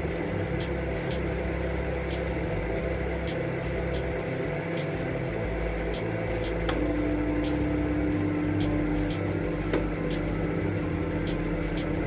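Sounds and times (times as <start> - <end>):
microwave oven humming: 0.0 - 12.0
steady low tone: 0.0 - 12.0.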